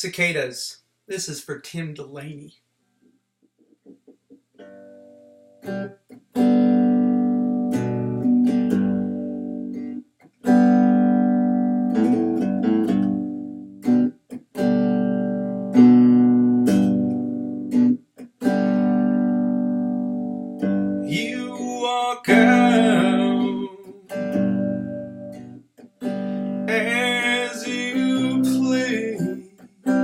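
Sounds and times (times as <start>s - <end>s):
acoustic guitar plucking and strumming: 3.6s - 30.0s.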